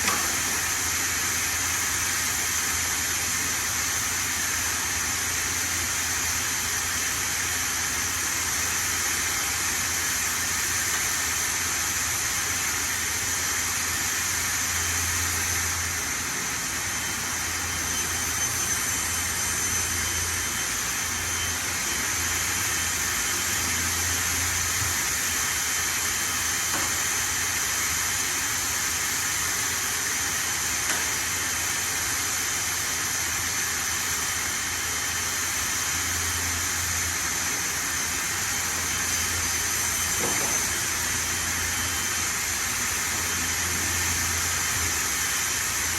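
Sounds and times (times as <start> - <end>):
high spindle whine: 0.0 - 45.9.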